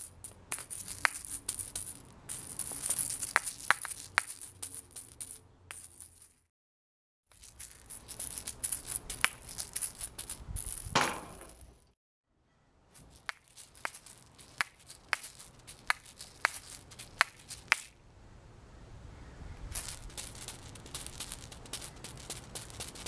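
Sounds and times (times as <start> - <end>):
shaker balls rattling: 0.0 - 6.5, 7.3 - 11.8, 12.9 - 18.0, 19.7 - 23.0
sharp clacks of shaker shells: 0.0 - 6.5, 7.3 - 11.7, 13.0 - 18.0, 19.7 - 23.0.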